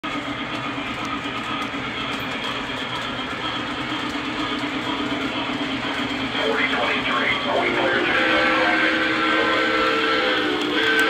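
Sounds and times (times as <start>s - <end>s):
model train rumbling hum: 0.0s - 11.0s.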